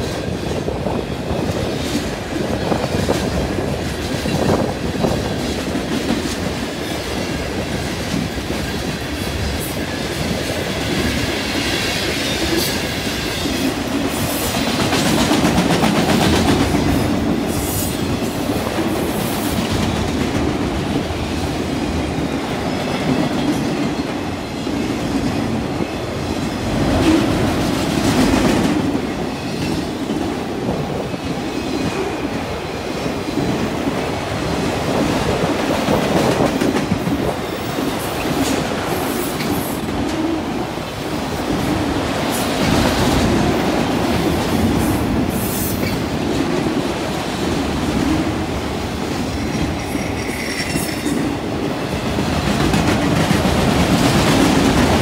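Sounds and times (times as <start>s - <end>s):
train wheels rumbling and clicking: 0.0s - 55.0s.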